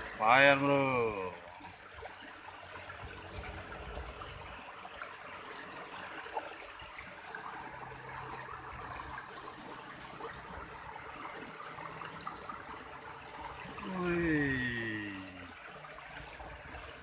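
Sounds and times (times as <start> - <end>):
water flowing and trickling: 0.0 - 17.0.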